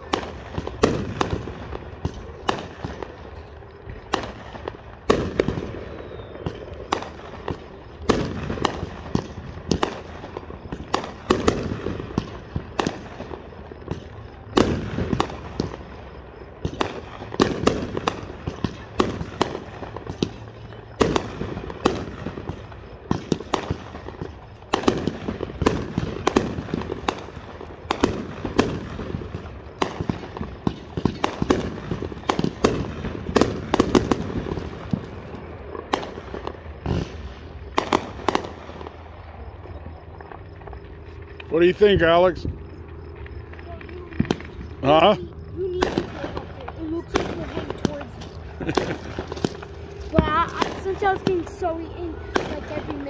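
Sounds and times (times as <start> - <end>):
fireworks bursting with sharp bangs: 0.0 - 53.0.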